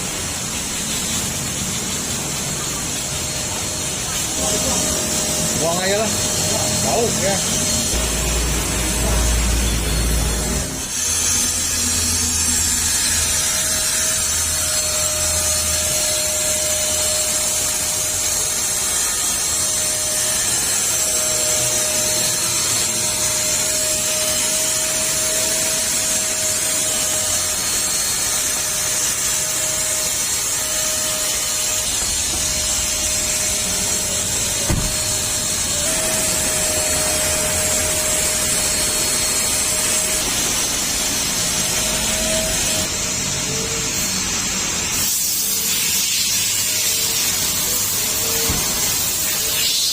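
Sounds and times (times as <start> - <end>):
car wash motor whine: 0.0 - 49.9.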